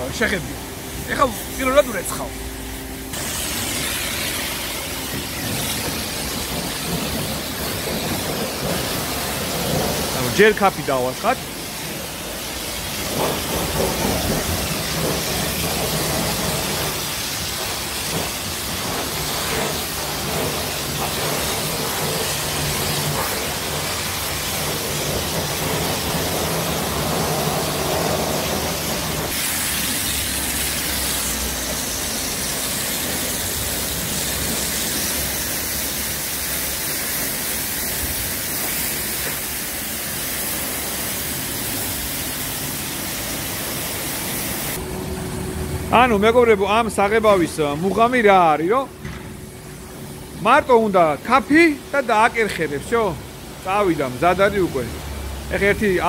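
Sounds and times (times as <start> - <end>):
pressure washer spray hiss: 0.1 - 44.9, 45.9 - 56.0.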